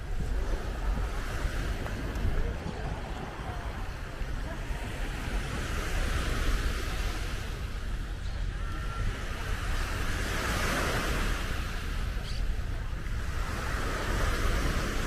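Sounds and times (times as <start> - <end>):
sea waves washing on beach: 0.0 - 15.0
wind buffeting microphone: 0.0 - 15.0.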